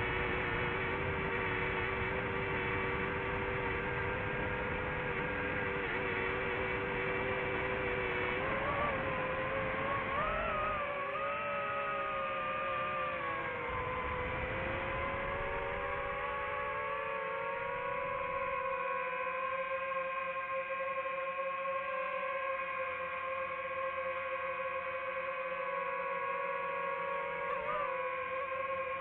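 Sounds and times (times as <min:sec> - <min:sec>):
drone propellers whining: 0:00.0 - 0:20.8, 0:21.5 - 0:29.0.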